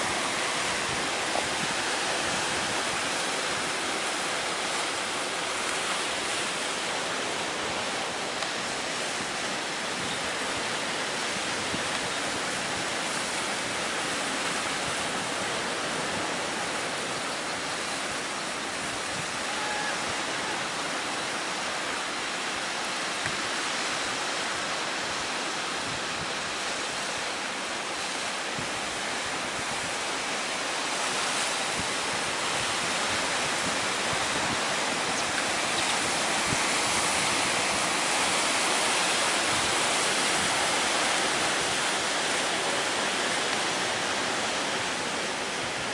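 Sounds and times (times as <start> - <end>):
strong wind: 0.0 - 45.9
waves breaking on shore: 0.0 - 45.9.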